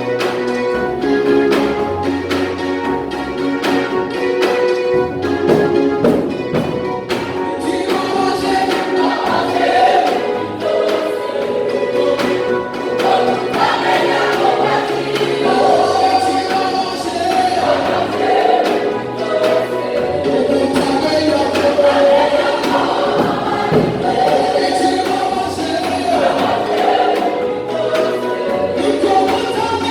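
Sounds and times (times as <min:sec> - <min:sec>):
choir singing gospel song: 0:00.0 - 0:29.9.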